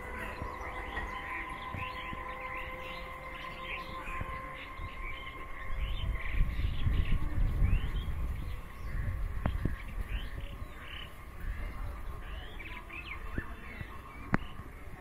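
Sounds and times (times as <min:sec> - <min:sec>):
low rumble: 0:00.0 - 0:14.9
birds chirping: 0:00.0 - 0:15.0.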